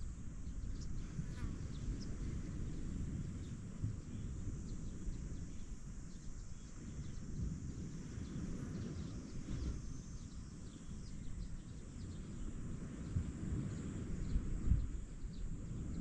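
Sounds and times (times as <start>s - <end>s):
wind rumble on microphone: 0.0s - 16.0s
small birds chirping: 0.4s - 16.0s.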